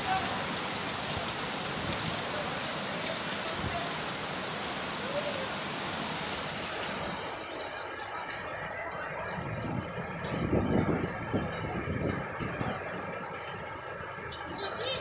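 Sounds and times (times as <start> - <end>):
heavy rain on hard surfaces: 0.0 - 15.0.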